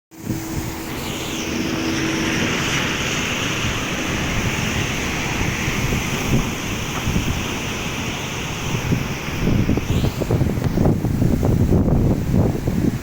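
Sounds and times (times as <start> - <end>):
heavy rain falling: 0.6 - 13.0.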